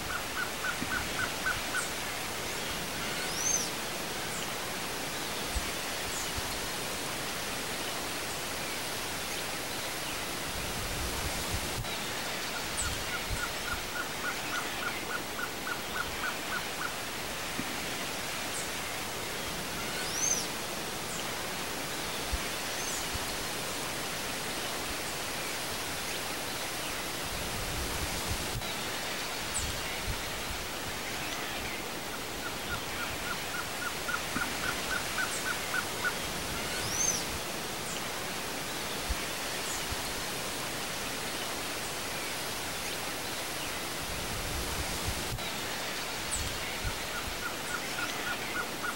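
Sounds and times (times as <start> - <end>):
steady outdoor hiss: 0.0 - 48.9.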